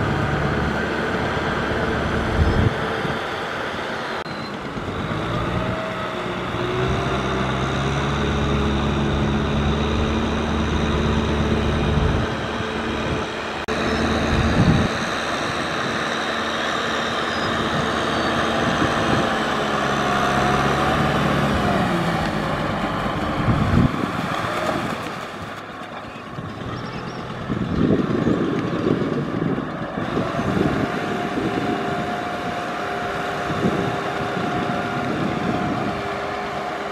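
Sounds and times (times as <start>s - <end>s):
tractor diesel engine running: 0.0s - 36.9s
rotary tiller churning mud: 5.1s - 36.9s.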